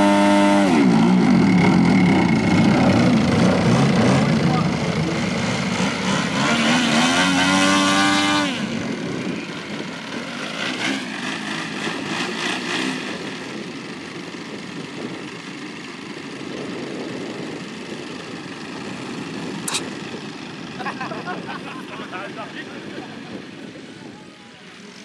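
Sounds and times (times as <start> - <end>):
model aircraft engines running: 0.0 - 25.0.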